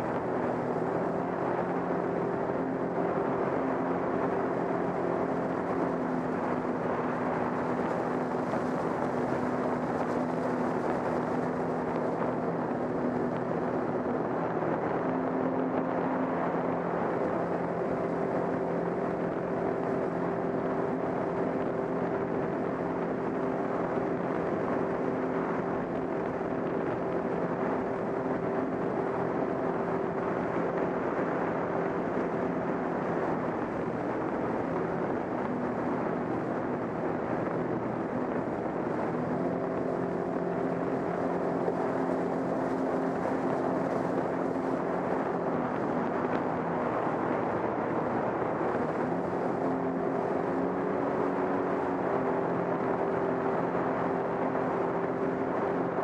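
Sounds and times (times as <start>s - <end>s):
watercraft engine drone: 0.0s - 56.0s.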